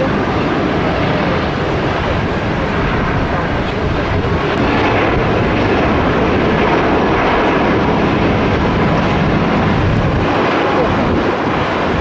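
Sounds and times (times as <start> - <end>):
airliner engines running: 0.0 - 12.0.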